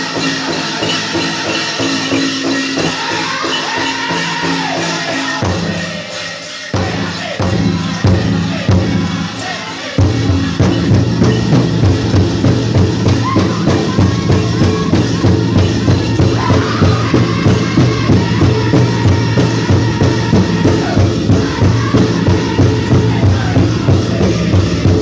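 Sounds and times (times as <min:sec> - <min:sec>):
ankle bells jingling: 0:00.0 - 0:25.0
big drum beat: 0:00.0 - 0:25.0
singers' high voices: 0:00.0 - 0:25.0.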